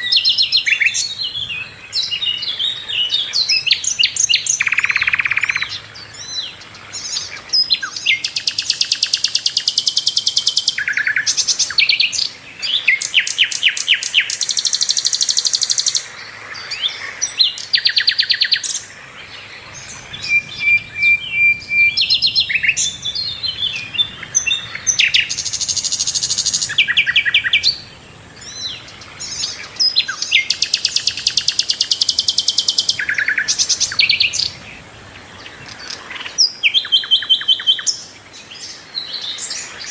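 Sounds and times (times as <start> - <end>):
flycatcher singing trills: 0.0 - 39.9.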